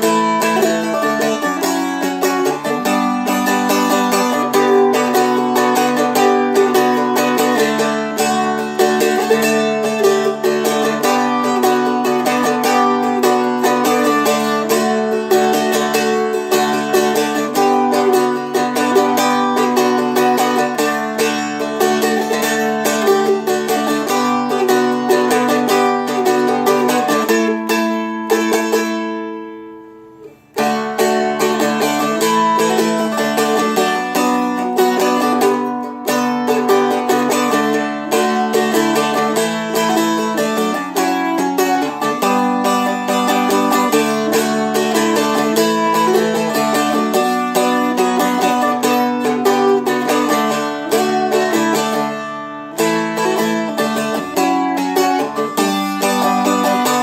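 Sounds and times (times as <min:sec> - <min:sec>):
dulcimer strummed with a drone: 0:00.0 - 0:29.5, 0:30.6 - 0:57.0.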